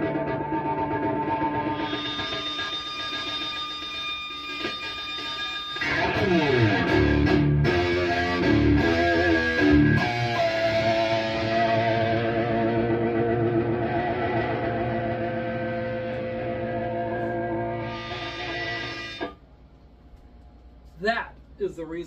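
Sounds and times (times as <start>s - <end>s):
distorted electric guitar: 0.0s - 19.4s.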